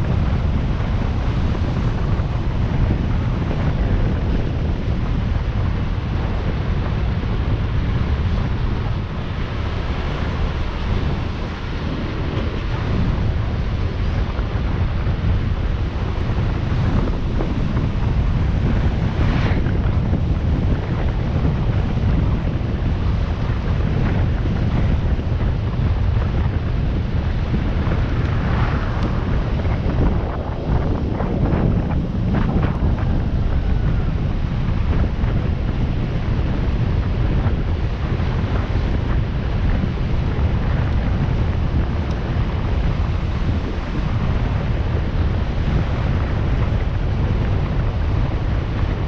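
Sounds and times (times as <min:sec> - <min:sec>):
wind rushing over microphone: 0:00.0 - 0:49.0.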